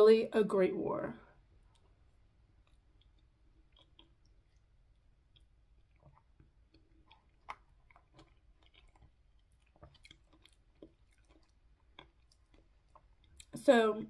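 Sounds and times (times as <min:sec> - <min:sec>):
faint chewing: 0:01.3 - 0:13.7.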